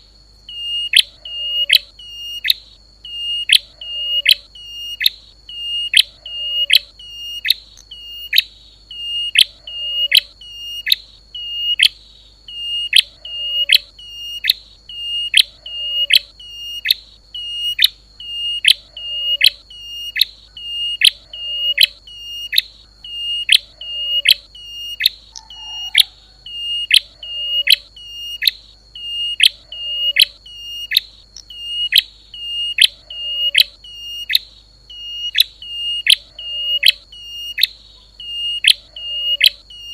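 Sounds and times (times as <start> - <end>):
recorded bird call: 0.0 - 39.9.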